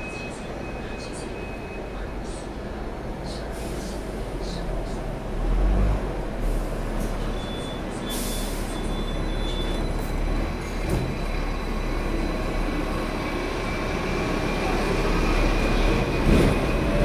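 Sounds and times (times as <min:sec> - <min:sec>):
tram and traffic rumble: 0:00.0 - 0:17.0.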